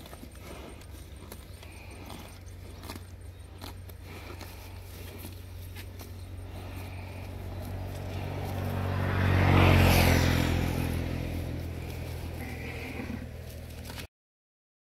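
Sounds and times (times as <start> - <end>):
vehicle driving past: 0.1 - 14.1.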